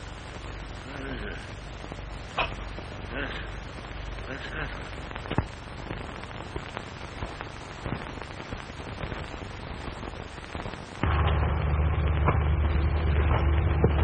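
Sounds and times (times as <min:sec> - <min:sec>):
film soundtrack hiss and crackle: 0:00.0 - 0:14.0
low steady rumble: 0:00.0 - 0:14.0.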